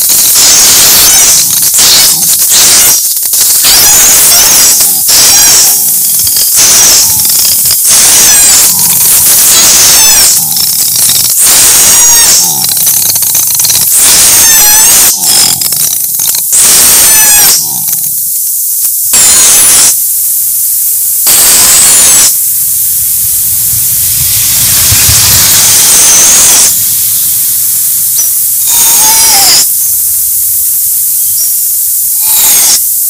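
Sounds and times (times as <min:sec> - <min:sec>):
loud static hiss: 0:00.0 - 0:33.0
surges of noise: 0:00.0 - 0:33.0.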